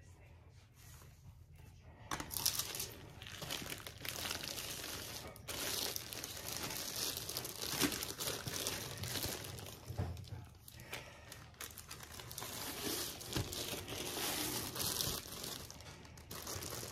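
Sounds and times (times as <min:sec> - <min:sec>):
tissue paper and plastic crinkling: 0:02.1 - 0:16.9.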